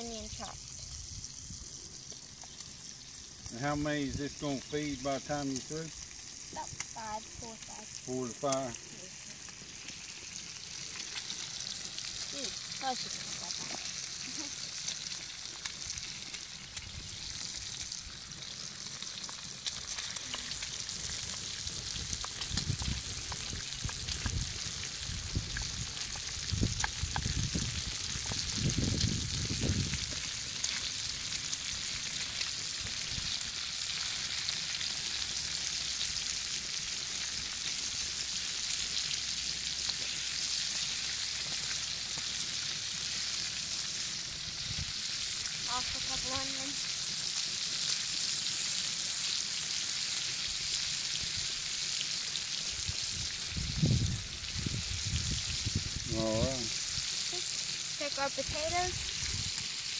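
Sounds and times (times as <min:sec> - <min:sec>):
bacon and onion sizzling in skillet: 0:00.0 - 0:59.9.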